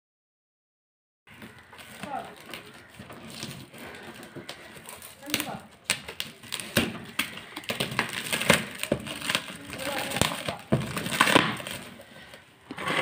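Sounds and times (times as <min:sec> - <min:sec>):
plastic packaging crinkling: 0:01.3 - 0:13.0.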